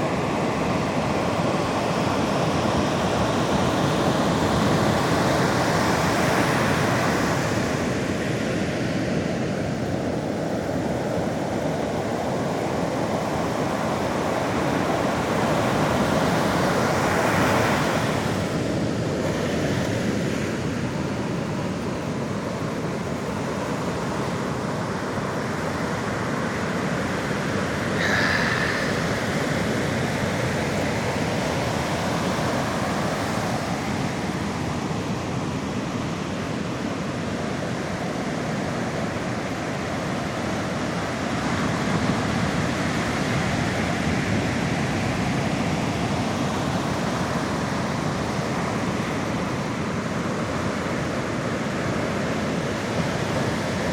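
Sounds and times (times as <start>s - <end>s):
sea surf washing on shore: 0.0s - 53.9s.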